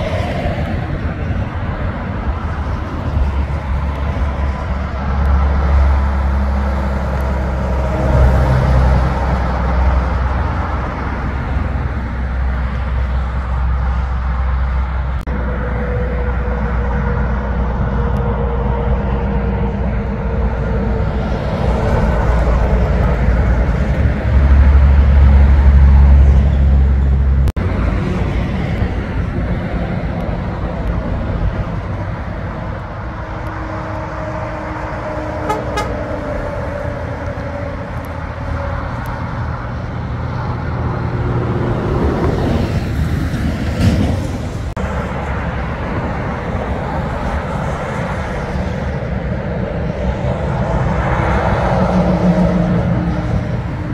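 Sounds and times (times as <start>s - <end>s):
heavy trucks driving past: 0.0s - 53.9s.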